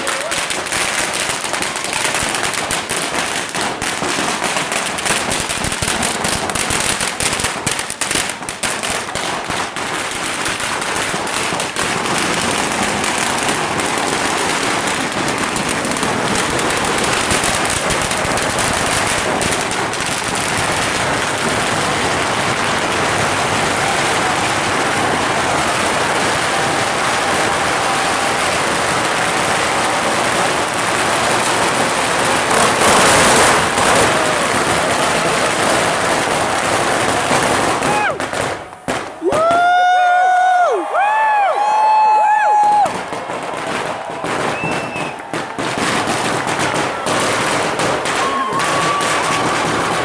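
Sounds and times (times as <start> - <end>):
fireworks and firecrackers: 0.0 - 50.0.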